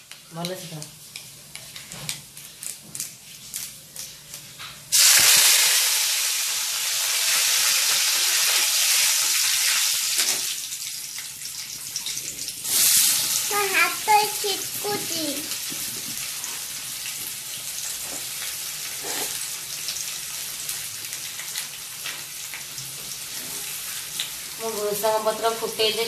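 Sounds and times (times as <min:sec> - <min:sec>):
leaves sizzling in hot oil: 0:02.4 - 0:26.0.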